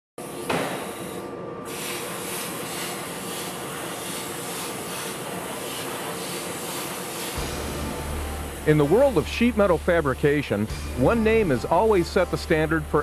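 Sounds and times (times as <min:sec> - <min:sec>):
plasma torch arc hissing: 0:00.3 - 0:13.0.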